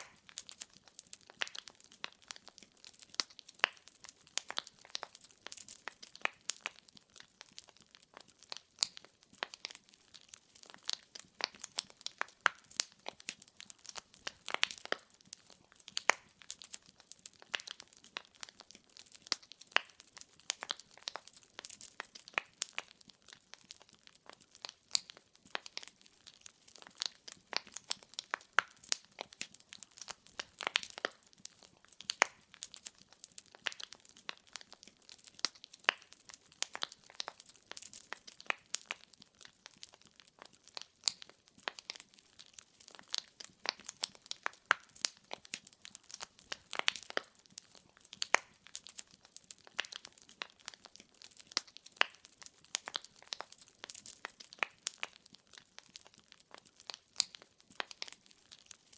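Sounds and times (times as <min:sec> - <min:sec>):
logs crackling in a fireplace: 0:00.0 - 0:58.9.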